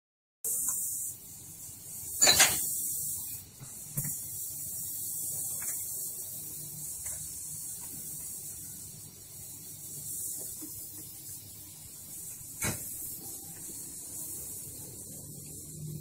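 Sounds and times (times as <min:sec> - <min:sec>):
steady hiss: 0:00.4 - 0:16.0.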